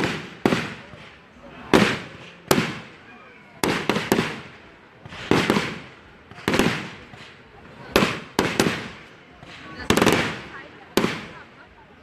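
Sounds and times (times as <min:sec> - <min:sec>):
fireworks bangs with echo: 0:00.0 - 0:11.8.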